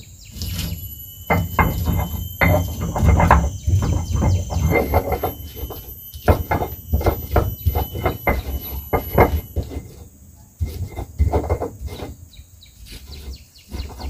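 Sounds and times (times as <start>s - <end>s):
firewood knocking and clattering: 0.4s - 12.2s
dull thumps: 0.4s - 12.3s.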